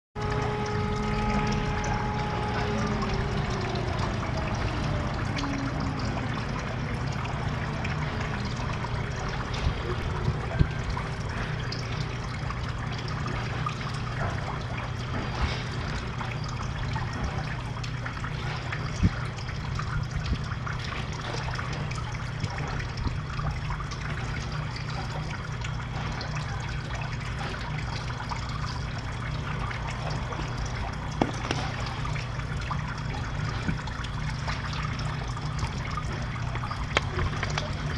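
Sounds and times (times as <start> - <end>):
low steady hum: 0.2 - 37.9
small splashes: 0.2 - 37.9
water trickling into pond: 0.2 - 37.9.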